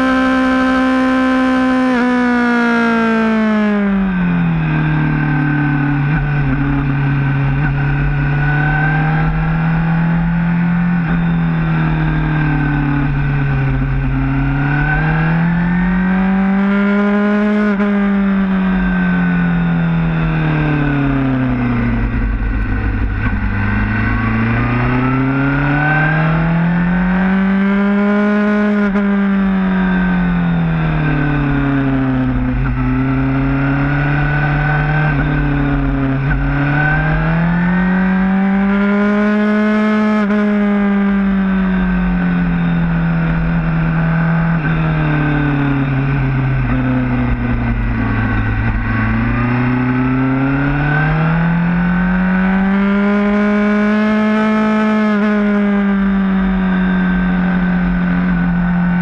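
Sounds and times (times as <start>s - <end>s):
motorcycle engine accelerating: 0.0s - 59.0s
low wind rumble: 2.9s - 39.4s, 40.3s - 53.8s.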